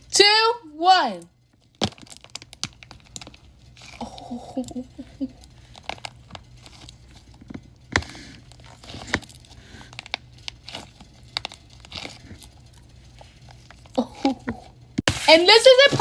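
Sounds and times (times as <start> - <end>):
wax shell cracking: 1.4 - 16.0.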